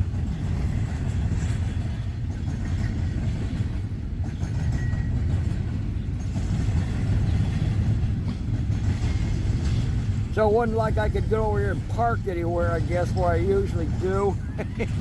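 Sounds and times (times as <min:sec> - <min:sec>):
heavy vehicle rumbling: 0:00.0 - 0:15.0.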